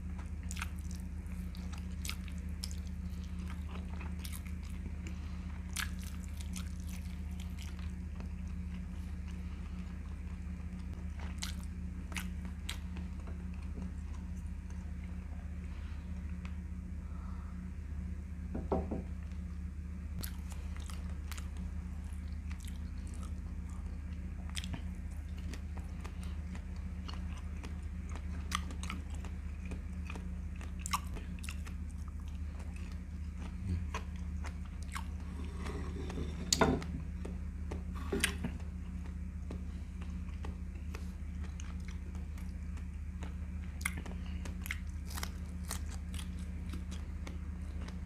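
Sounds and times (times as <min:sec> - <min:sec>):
person chewing: 0:00.0 - 0:16.6, 0:20.2 - 0:48.0
low electrical hum: 0:00.0 - 0:48.0.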